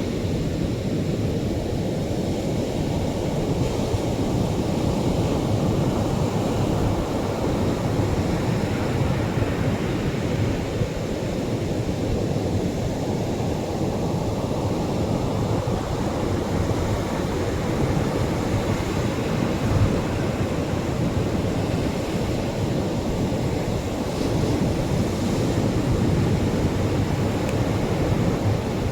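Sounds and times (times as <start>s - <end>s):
ocean waves washing on shore: 0.0s - 28.9s.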